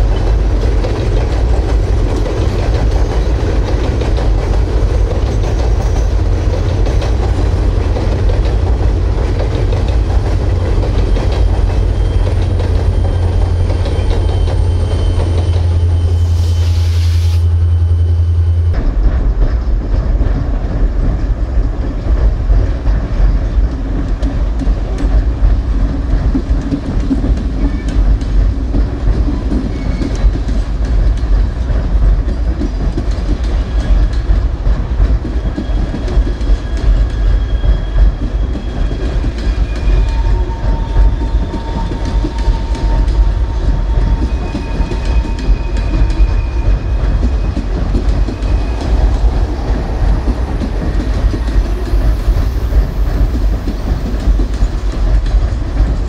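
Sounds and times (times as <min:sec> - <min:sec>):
wheels clacking over rail joints: 0:00.0 - 0:16.1, 0:18.7 - 0:56.0
freight train rumbling past: 0:00.0 - 0:56.0.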